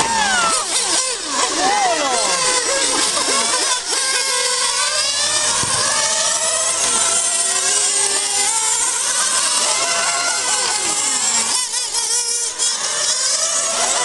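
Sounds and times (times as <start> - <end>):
model car engines screaming: 0.0 - 14.0.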